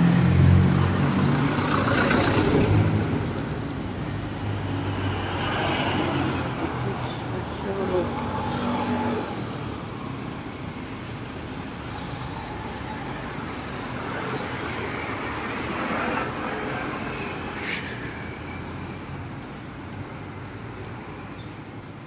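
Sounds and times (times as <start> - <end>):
traffic engine and tyre noise: 0.0 - 22.0.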